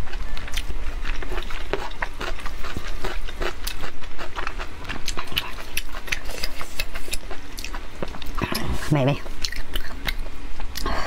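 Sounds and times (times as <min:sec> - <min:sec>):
chewing sticky meat: 0:00.0 - 0:11.0.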